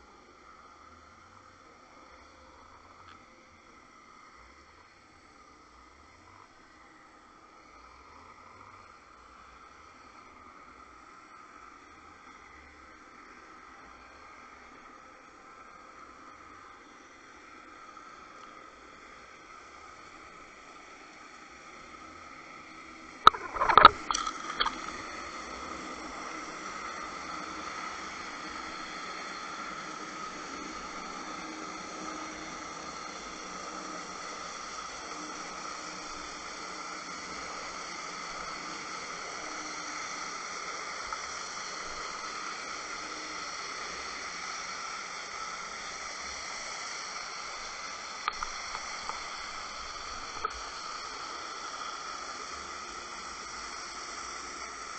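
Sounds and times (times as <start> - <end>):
underwater hiss: 0.0 - 54.9.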